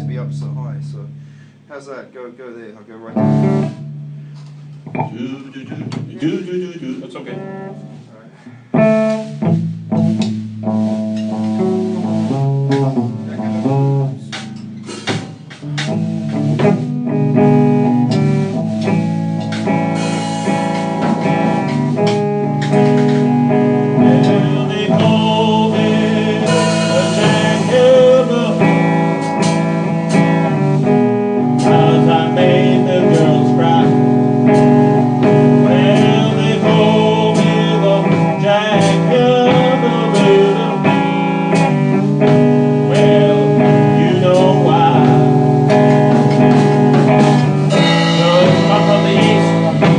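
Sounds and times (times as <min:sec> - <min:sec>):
slow blues guitar: 0:00.0 - 0:49.9.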